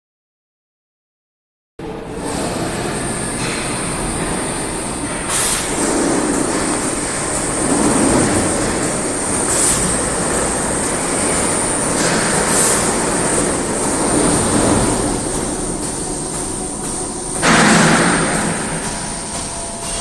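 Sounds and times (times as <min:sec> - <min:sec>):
steady high whine: 0:01.8 - 0:20.0
loud rush: 0:02.0 - 0:20.0.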